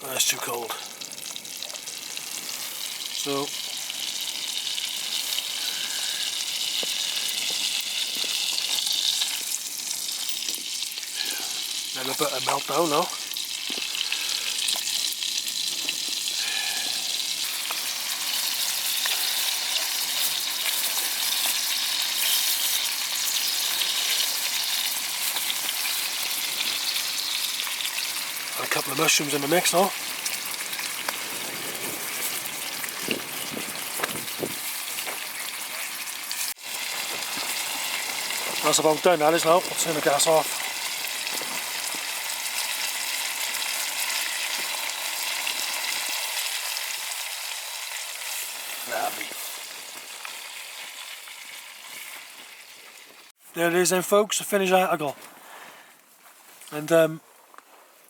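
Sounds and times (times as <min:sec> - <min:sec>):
butter sizzling in a pan: 0:00.4 - 0:53.4.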